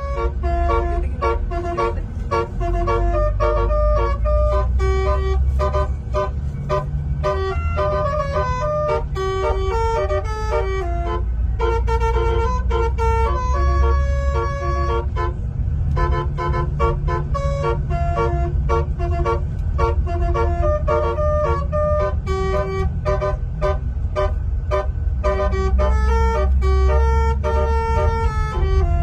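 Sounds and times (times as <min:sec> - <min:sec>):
multi-tone bus horn tune: 0:00.0 - 0:29.0.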